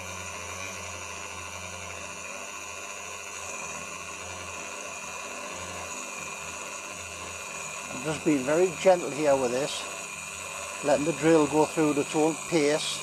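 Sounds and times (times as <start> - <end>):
rotary tool drilling into metal: 0.0 - 13.0.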